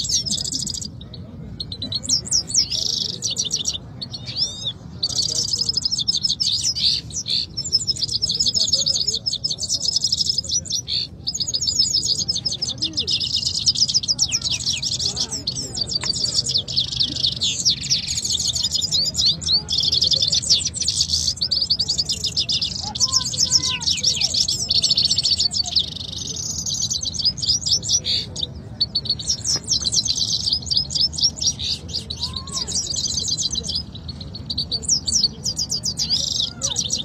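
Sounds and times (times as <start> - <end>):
canaries trilling and chirping: 0.0 - 37.0.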